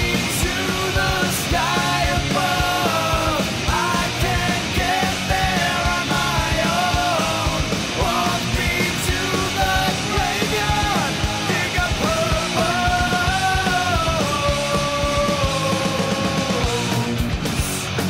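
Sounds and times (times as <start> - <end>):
rock music with singer: 0.0 - 18.0.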